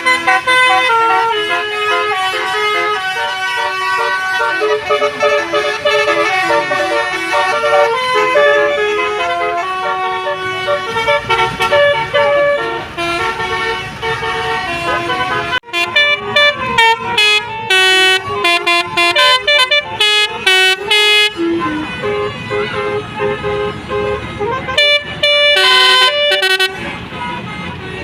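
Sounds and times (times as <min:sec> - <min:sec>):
multi-tone bus horn tune: 0:00.0 - 0:28.0.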